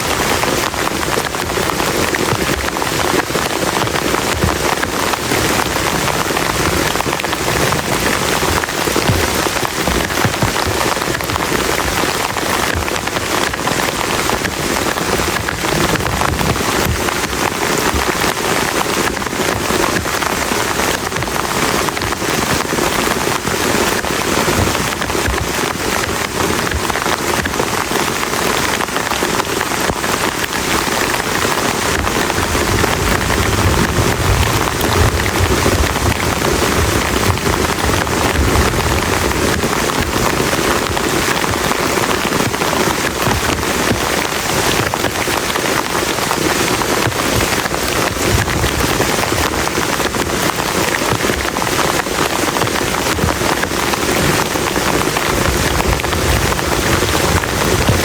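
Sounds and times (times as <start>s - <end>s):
heavy rain patter: 0.0s - 58.0s.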